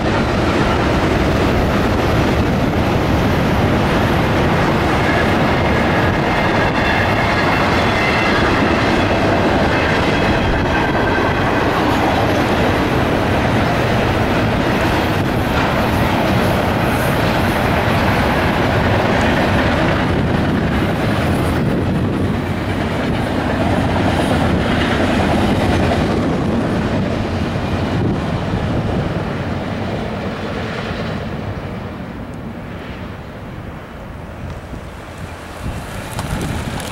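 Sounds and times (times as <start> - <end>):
train wheels running on rails: 0.0 - 36.9.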